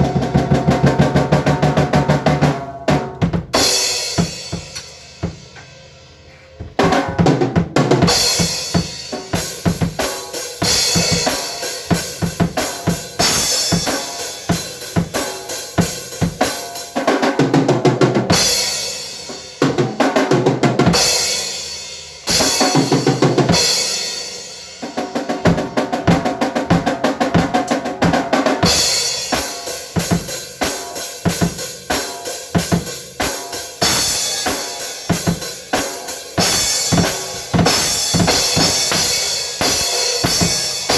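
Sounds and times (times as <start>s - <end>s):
fast drum kit playing: 0.0s - 6.0s, 6.6s - 40.9s.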